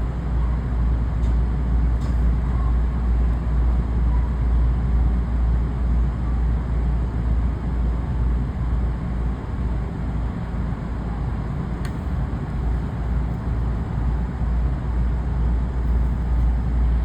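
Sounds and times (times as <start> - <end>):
train wheels rumbling on track: 0.0 - 4.2, 6.5 - 17.0.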